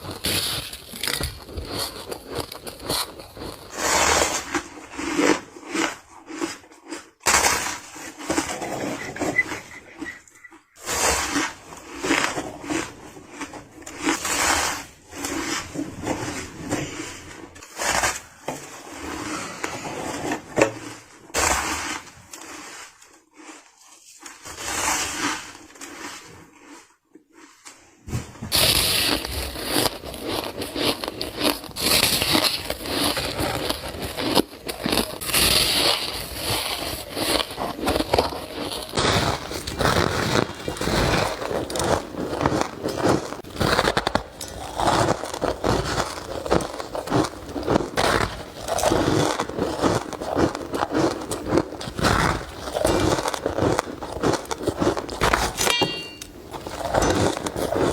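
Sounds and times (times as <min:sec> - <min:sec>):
ice crunching between teeth: 0:00.0 - 0:57.9.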